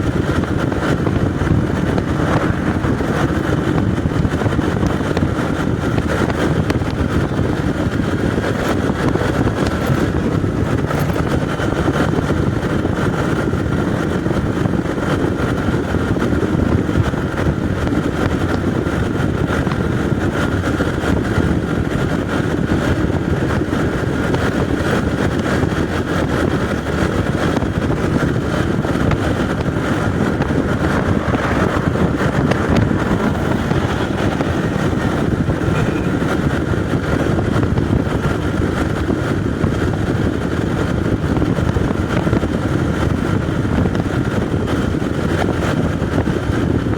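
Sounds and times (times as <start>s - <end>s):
motorcycle engine cruising: 0.0s - 46.9s
wind and road noise: 0.0s - 46.9s.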